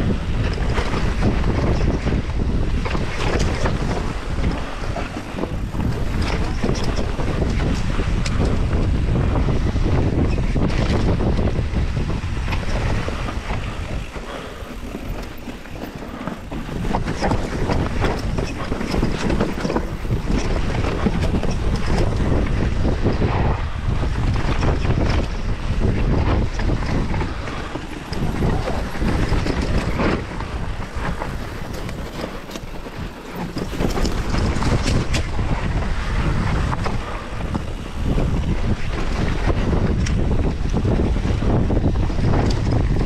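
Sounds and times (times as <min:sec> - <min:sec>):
bike rattling and knocking: 0:00.0 - 0:43.0
wind rushing over microphone: 0:00.0 - 0:43.0.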